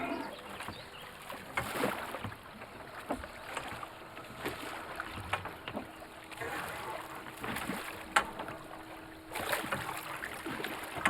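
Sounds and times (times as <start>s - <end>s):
oar strokes splashing: 0.0s - 11.0s.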